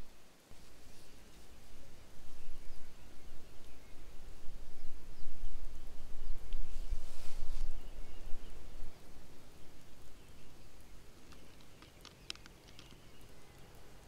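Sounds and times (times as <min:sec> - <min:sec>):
wind buffeting microphone: 0:01.2 - 0:13.3.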